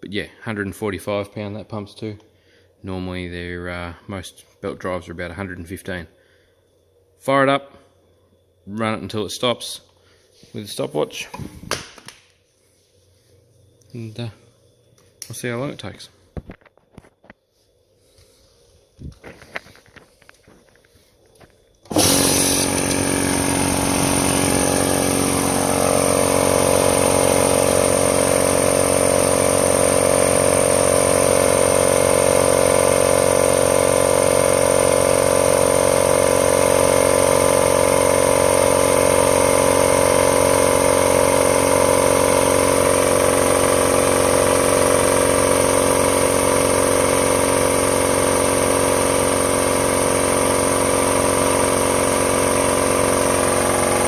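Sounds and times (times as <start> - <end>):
air compressor running: 5.0 - 54.0.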